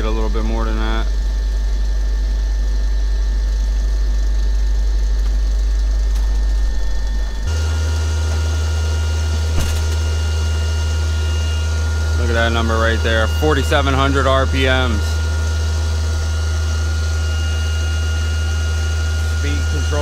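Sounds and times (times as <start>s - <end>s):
motor high whine: 0.0s - 20.0s
electric motor humming: 3.8s - 20.0s.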